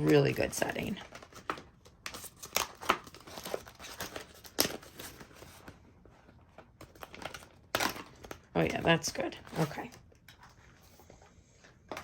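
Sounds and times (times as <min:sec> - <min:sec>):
paper crinkling and rustling: 0:00.0 - 0:11.2.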